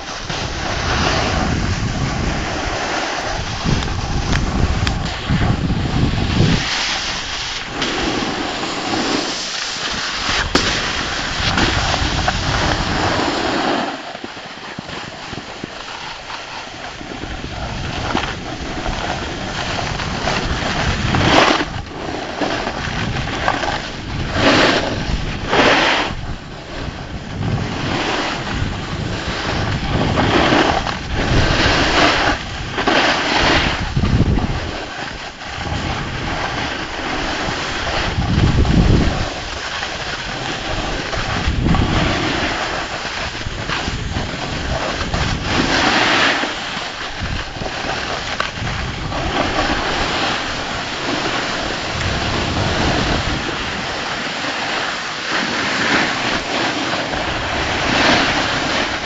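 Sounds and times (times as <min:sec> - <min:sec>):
wind buffeting microphone: 0:00.0 - 0:13.5, 0:14.8 - 0:54.5, 0:55.8 - 0:59.0
snowboard scraping over snow: 0:00.0 - 0:59.0.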